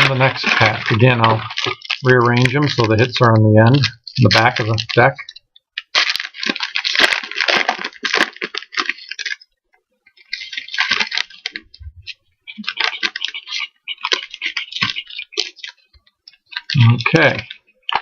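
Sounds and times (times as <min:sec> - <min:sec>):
card pack crinkling and rustling: 0:00.0 - 0:09.5, 0:10.1 - 0:18.0.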